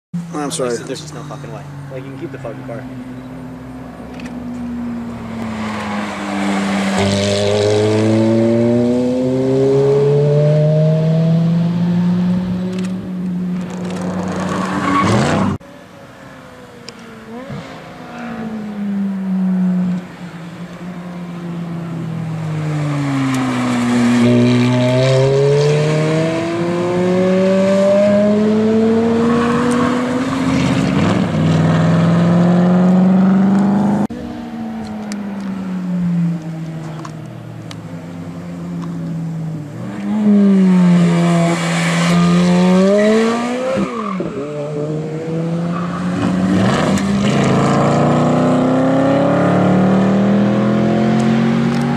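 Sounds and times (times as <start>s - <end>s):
sports car engine revving: 1.2s - 15.6s, 16.9s - 51.9s.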